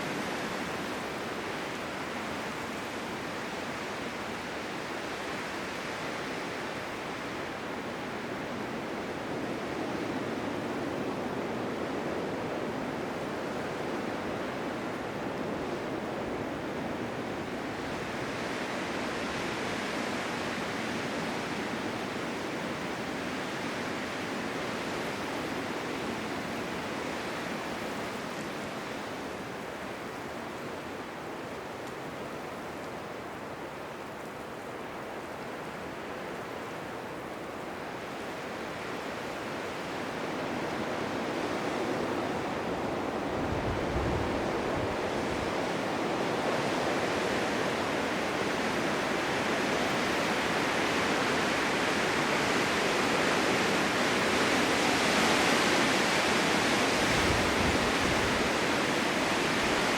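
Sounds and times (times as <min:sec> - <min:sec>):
blizzard wind blowing: 0:00.0 - 0:59.9.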